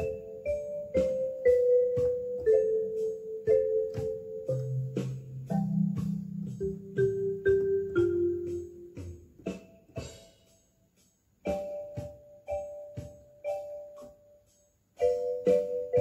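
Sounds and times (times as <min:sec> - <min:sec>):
slow keyboard melody: 0:00.0 - 0:16.0.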